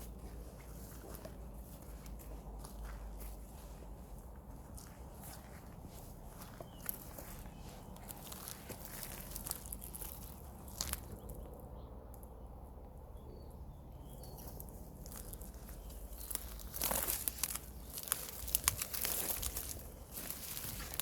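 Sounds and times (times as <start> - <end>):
dry vegetation crackling: 0.0 - 12.4, 13.9 - 21.0.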